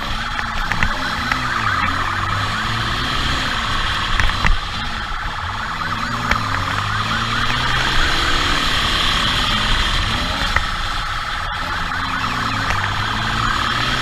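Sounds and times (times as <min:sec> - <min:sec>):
motorcycle engine revving: 0:00.0 - 0:14.0
siren yelp: 0:00.0 - 0:14.0.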